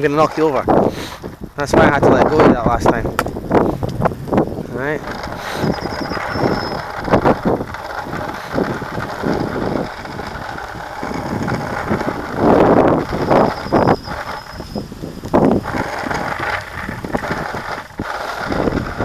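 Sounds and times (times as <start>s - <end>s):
bicycles rolling along path: 0.0s - 19.0s
wind buffeting microphone: 0.0s - 19.0s
freewheel ticking: 2.8s - 19.0s.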